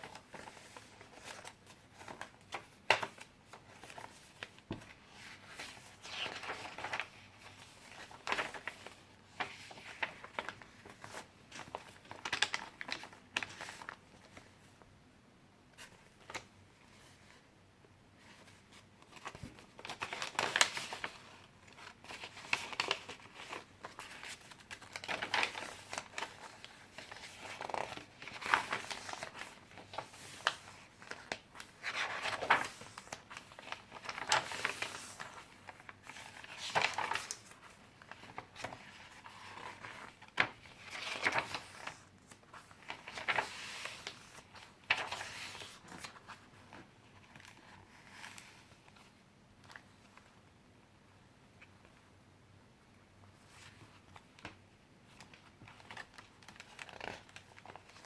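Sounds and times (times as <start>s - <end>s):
paper pages rustling: 0.0s - 14.7s, 18.2s - 50.4s, 53.3s - 58.0s.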